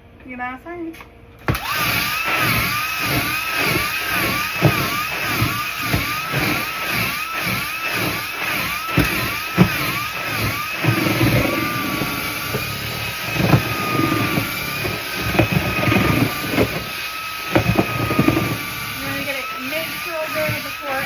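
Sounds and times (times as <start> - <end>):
mixer motor whining: 1.4 - 21.0
feed churning in bucket: 1.5 - 21.0.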